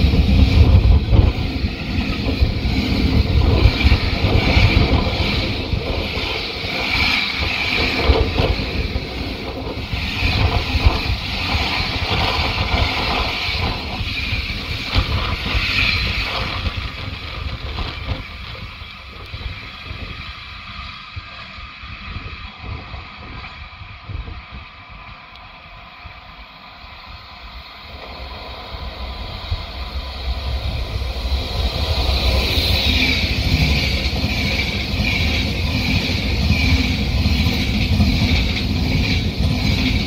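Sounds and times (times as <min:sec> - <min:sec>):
freight train passing: 0:00.0 - 0:40.0.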